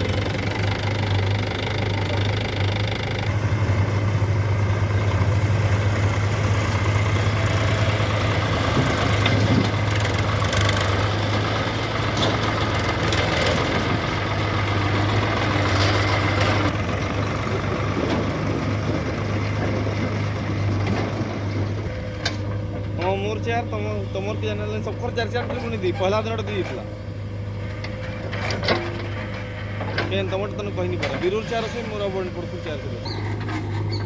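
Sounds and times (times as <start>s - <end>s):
diesel engines running: 0.0s - 34.0s.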